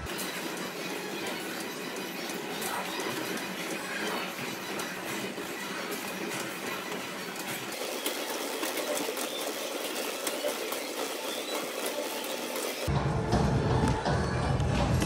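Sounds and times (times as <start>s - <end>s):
stair-climber mechanical rattle: 0.1s - 12.9s.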